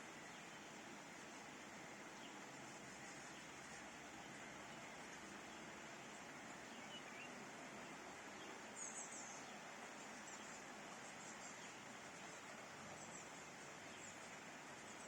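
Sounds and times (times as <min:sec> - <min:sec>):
rain shower hiss: 0:00.0 - 0:15.0.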